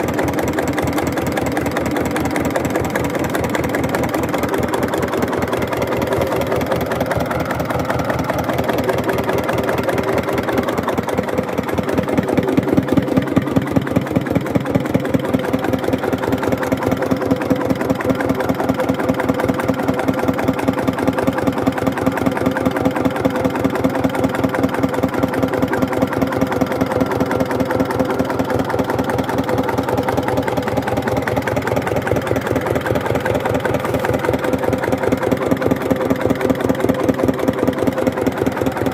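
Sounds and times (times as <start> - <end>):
diesel engine running slowly: 0.0 - 38.9.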